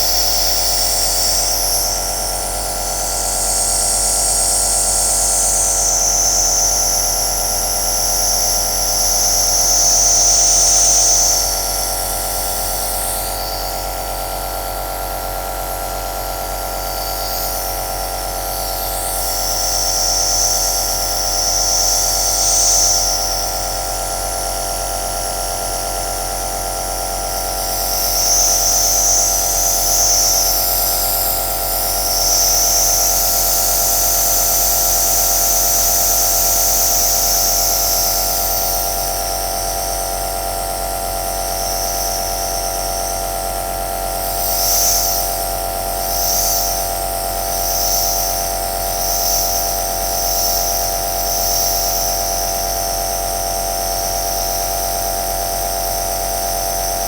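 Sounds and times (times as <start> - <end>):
electric motor buzz: 0.0 - 14.4, 15.0 - 39.9, 41.2 - 52.2.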